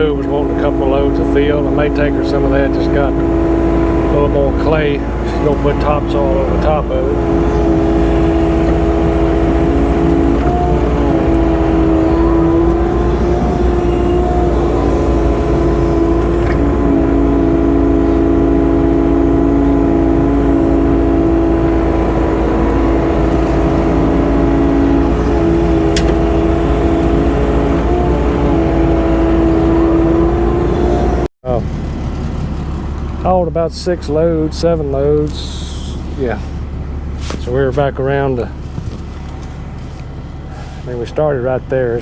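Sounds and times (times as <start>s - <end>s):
heavy machinery engine running: 0.0s - 42.0s.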